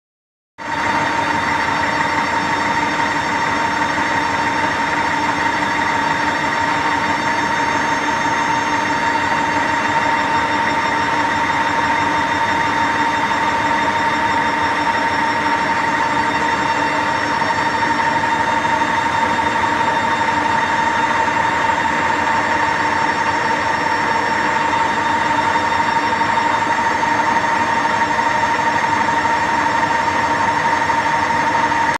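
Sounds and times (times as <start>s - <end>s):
drilling machine high tone: 0.6s - 31.9s
rushing machine noise: 0.7s - 31.9s.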